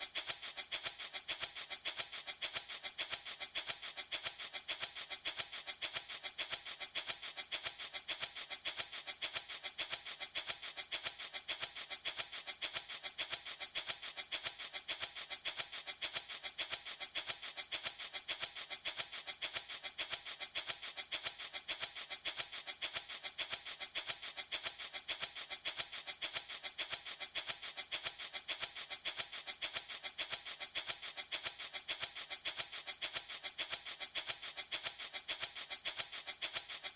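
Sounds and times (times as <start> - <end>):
baby rattle shaken: 0.0 - 36.9.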